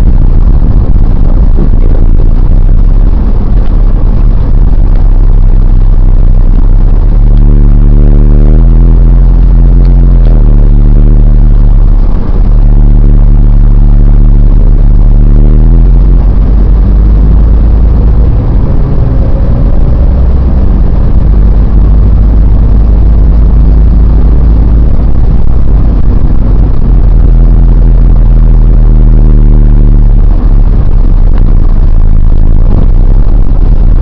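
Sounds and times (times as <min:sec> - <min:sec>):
car engine and road drone: 0:00.0 - 0:34.0.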